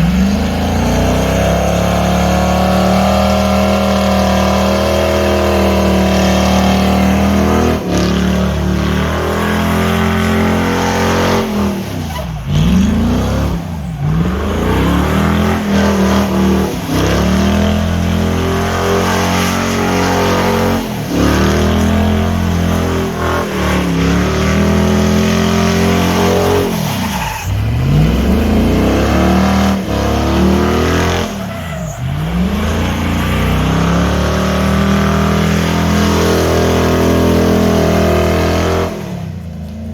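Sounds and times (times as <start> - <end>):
tires squealing on pavement: 0.0 - 39.2
truck engine revving: 0.0 - 39.9.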